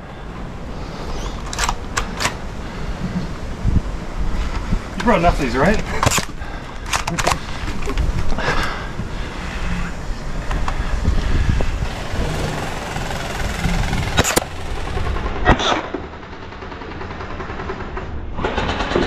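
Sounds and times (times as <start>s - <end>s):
low rumbling handling noise: 0.0s - 18.6s.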